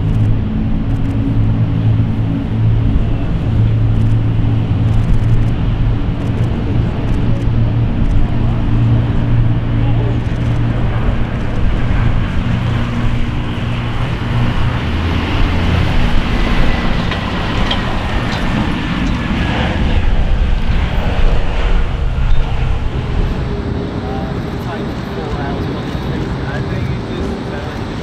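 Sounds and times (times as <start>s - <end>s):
jet engine roar: 0.0s - 28.0s
low hum: 0.0s - 28.0s.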